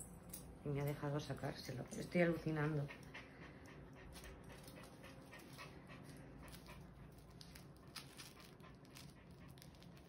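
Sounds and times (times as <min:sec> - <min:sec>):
dog panting: 0:01.9 - 0:10.0.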